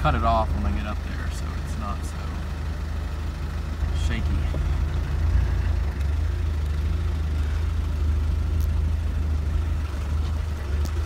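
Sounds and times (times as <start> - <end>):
car engine humming from inside: 0.0 - 11.0.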